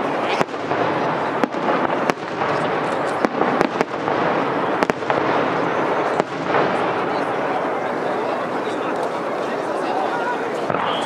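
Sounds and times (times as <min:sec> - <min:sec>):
steady noisy background: 0:00.0 - 0:11.0.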